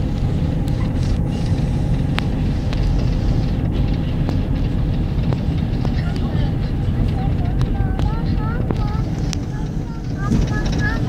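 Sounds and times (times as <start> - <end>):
engine and road rumble: 0.0 - 11.0
small clicks and rattles: 0.6 - 11.0.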